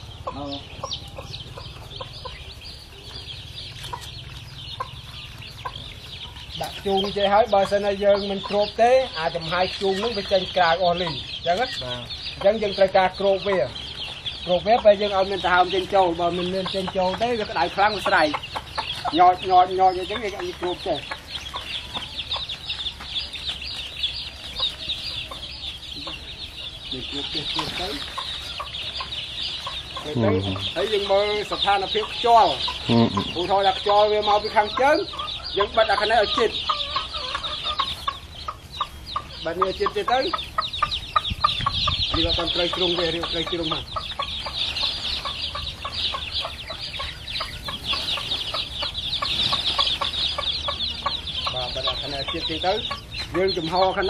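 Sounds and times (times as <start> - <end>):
chickens cheeping: 0.0 - 54.0.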